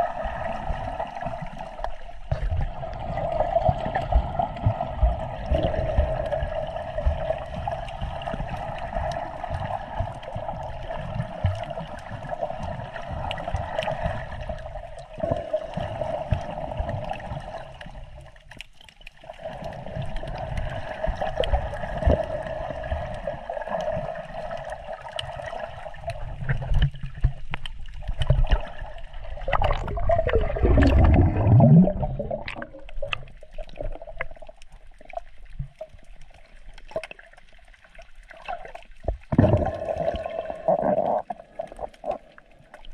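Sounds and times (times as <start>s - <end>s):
gurgle with falling pitch: 0.0s - 18.3s, 19.3s - 36.0s, 38.2s - 42.9s
water gurgling and sloshing: 0.0s - 42.9s.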